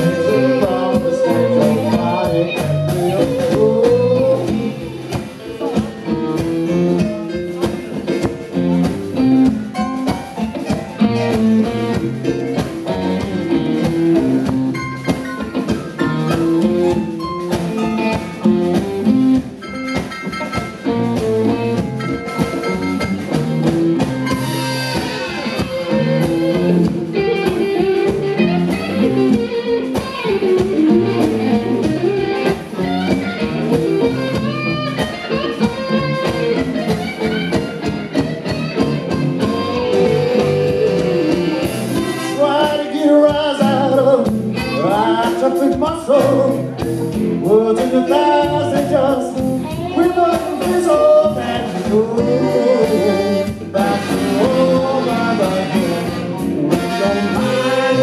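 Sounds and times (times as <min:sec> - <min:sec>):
drum kit: 0:00.0 - 0:58.0
electric guitars: 0:00.0 - 0:58.0.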